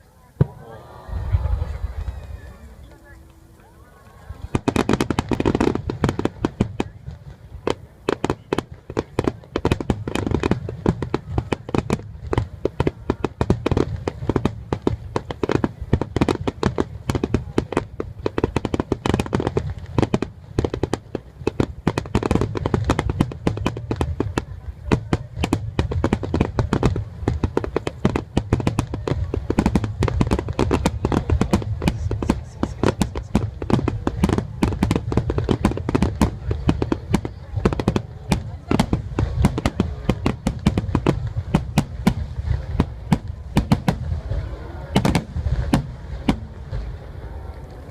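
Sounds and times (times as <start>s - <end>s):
fireworks crackling: 0.0s - 47.9s
fireworks booms: 0.4s - 47.9s.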